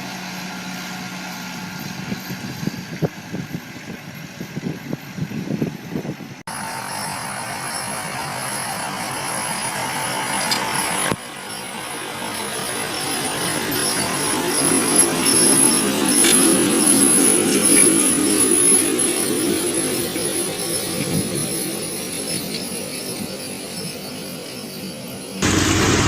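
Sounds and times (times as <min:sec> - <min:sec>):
machine engine drone with whine: 0:00.0 - 0:26.0.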